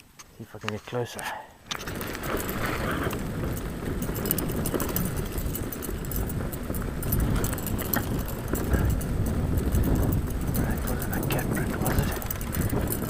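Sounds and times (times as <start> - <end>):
bike rattling clicks and knocks: 1.6 - 13.0
bike tyres rumbling on dirt: 1.6 - 13.0.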